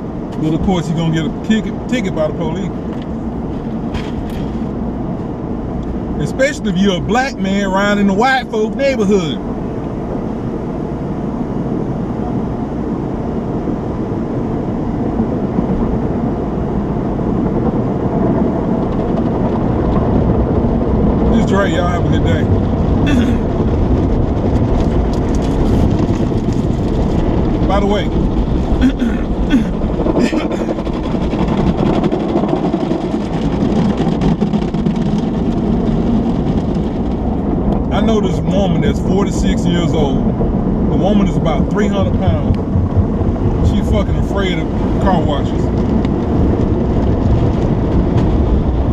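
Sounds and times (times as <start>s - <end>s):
low truck rumble from inside cab: 0.0s - 48.9s.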